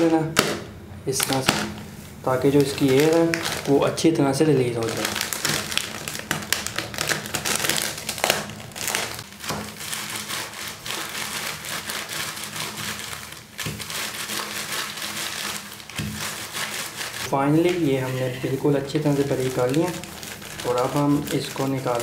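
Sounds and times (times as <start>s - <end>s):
chips crunching under rolling pin: 0.0s - 22.0s
plastic packet crinkling: 1.1s - 22.0s.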